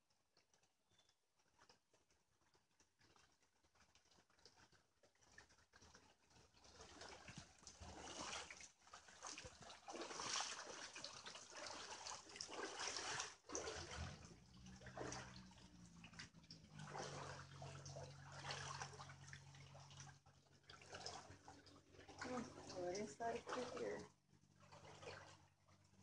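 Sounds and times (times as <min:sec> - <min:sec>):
floodwater sloshing and splashing: 0:00.1 - 0:26.0.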